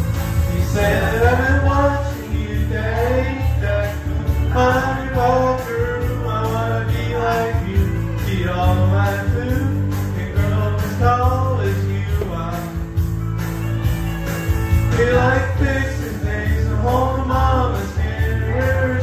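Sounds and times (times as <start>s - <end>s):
backing track with guitar: 0.0s - 19.0s
man singing into a microphone: 0.4s - 13.0s, 14.9s - 19.0s.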